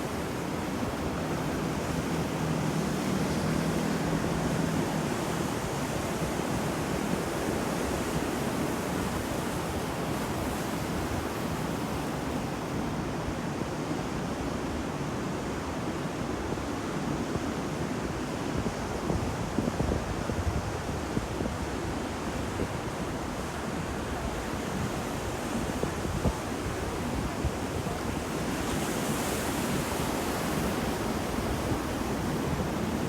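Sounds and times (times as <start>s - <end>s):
ocean waves washing onto shore: 0.0s - 33.0s.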